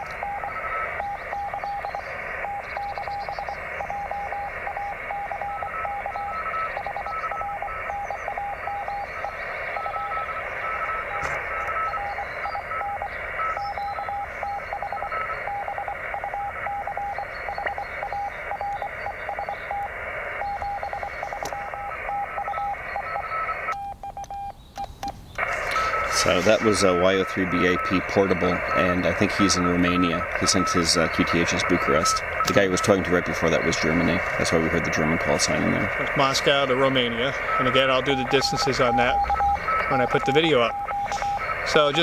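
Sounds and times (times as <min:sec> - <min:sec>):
radio band noise hiss: 0:00.0 - 0:23.8, 0:25.0 - 0:42.0
faint higher morse signal: 0:00.0 - 0:24.5, 0:25.4 - 0:42.0
morse code tone: 0:00.0 - 0:24.6, 0:25.4 - 0:42.0.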